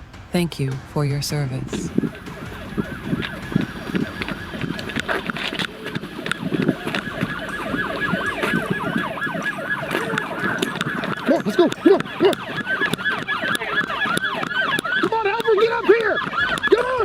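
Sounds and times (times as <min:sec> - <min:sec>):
police siren yelping: 0:01.7 - 0:17.0.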